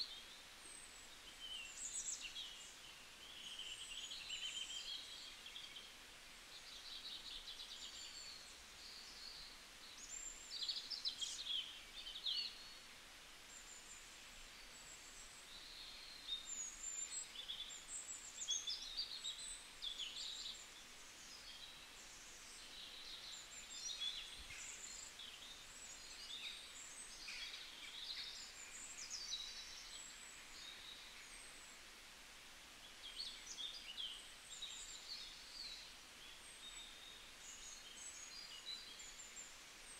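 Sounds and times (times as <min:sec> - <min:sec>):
small birds chirping: 0:00.0 - 0:32.1, 0:32.8 - 0:39.9
faint background hiss: 0:00.0 - 0:39.9.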